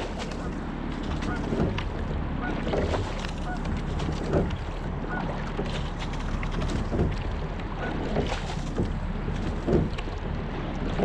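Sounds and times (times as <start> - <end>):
oars knocking: 0.0 - 11.0
water rushing along hull: 0.0 - 11.0.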